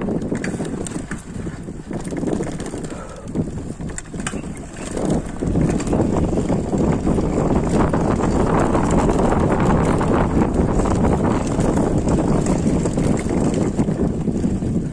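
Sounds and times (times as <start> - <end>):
bike clicks and rattles: 0.0 - 14.9
bike tyres on dirt: 0.0 - 14.9
wind buffeting microphone: 0.0 - 14.9.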